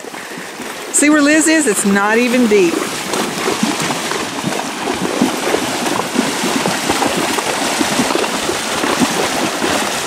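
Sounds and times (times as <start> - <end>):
hooves splashing in water: 0.0 - 10.0.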